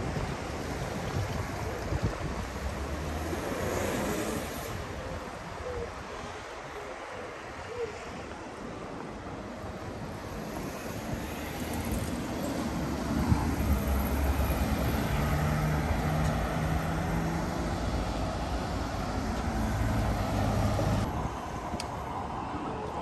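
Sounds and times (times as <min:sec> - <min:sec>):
vehicles driving past: 0:00.0 - 0:05.8, 0:09.7 - 0:23.0.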